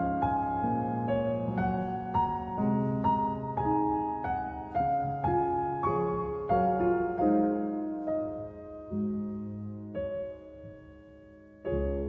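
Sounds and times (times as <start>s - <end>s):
calm piano music: 0.0s - 12.0s.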